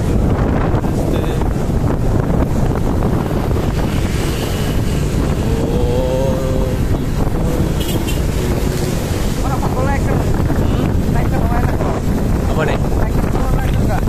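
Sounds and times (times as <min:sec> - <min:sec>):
motorbike running: 0:00.0 - 0:14.0
wind buffeting microphone: 0:00.0 - 0:14.0.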